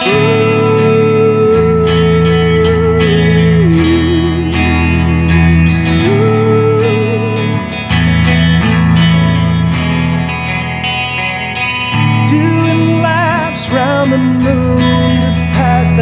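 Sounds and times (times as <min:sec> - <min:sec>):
guitar playing: 0:00.0 - 0:16.0
wavering lead melody: 0:00.0 - 0:16.0.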